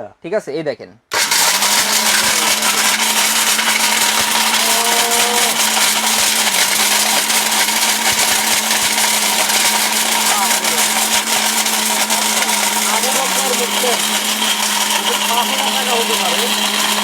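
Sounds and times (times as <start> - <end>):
blender grinding: 1.1 - 17.0
blender motor hum: 1.1 - 17.0.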